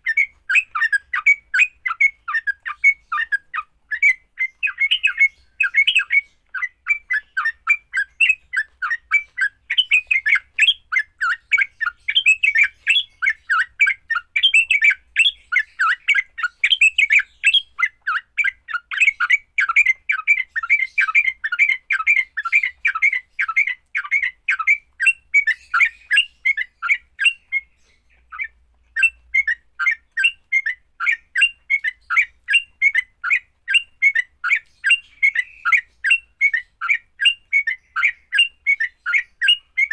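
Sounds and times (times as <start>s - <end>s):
bird harsh chattering calls: 0.0s - 39.9s.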